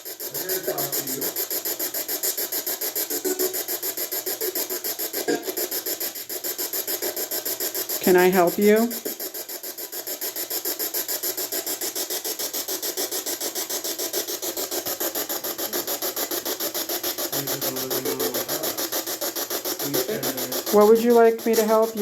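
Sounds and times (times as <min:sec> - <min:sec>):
electronic static pulses: 0:00.0 - 0:07.4, 0:08.0 - 0:09.2, 0:12.8 - 0:22.0.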